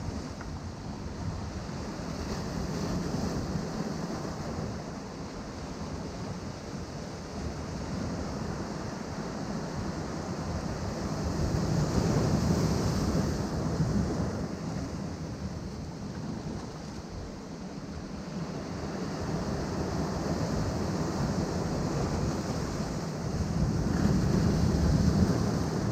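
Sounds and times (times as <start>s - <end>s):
surf on rocky shore: 0.0s - 25.9s.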